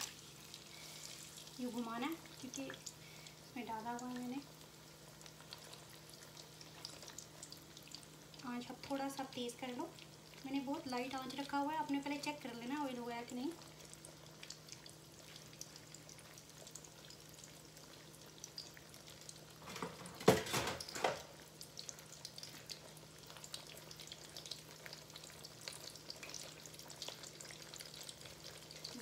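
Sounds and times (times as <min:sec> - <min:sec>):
faint sizzle and crackle of frying: 0:00.0 - 0:29.0.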